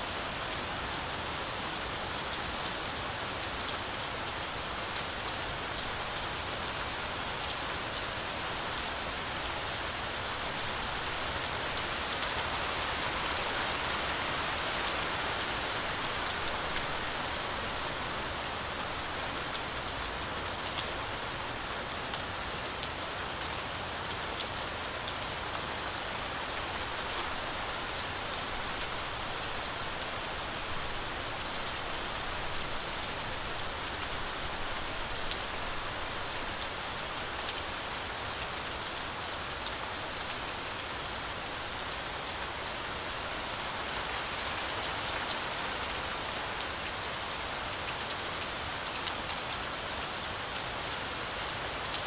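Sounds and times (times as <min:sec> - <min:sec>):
heavy rain on forest canopy: 0:00.0 - 0:52.0.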